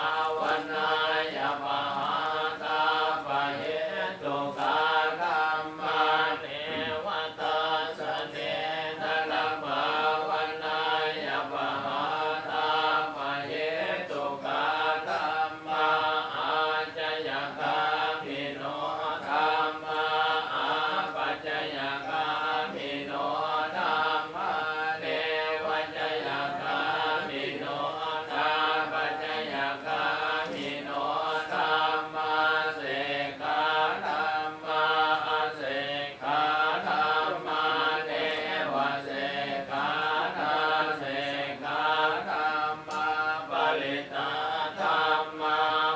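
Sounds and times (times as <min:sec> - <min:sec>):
voices chanting in monotone: 0:00.0 - 0:45.9.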